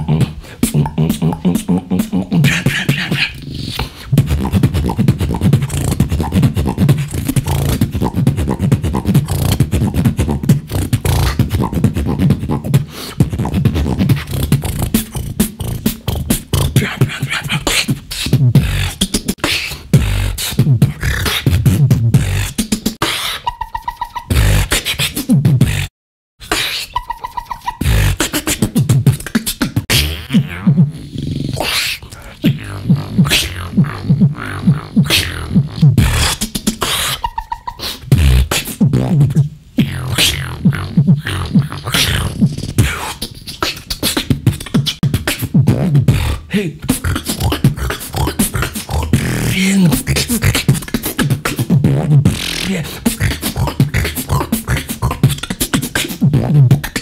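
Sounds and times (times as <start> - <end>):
person beatboxing: 0.0 - 57.0.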